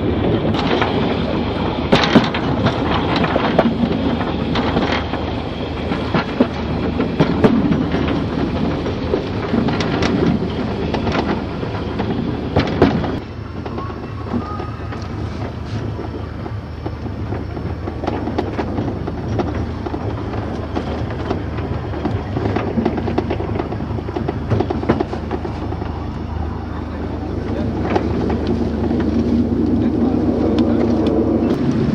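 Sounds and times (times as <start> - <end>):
train wheels rattling on rails: 0.0 - 31.9.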